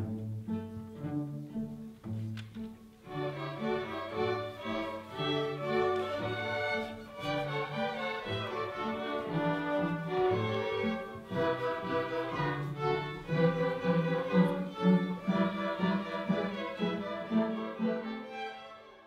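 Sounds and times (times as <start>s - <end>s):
string orchestra playing: 0.0s - 19.0s.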